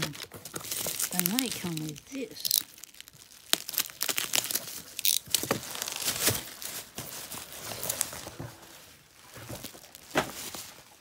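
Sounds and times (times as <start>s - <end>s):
bubble wrap crackling: 0.0s - 11.0s.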